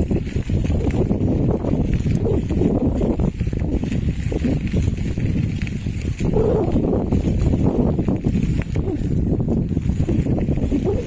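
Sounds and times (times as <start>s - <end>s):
bicycle riding over rough ground: 0.0s - 11.0s
wind buffeting microphone: 0.0s - 11.0s.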